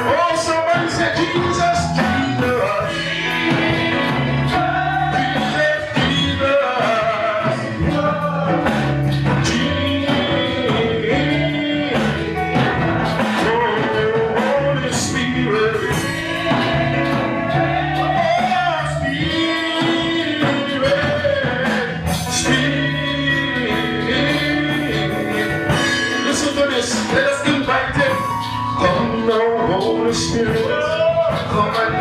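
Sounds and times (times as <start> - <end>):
bass and guitar accompaniment: 0.0 - 32.0
person singing: 0.0 - 32.0.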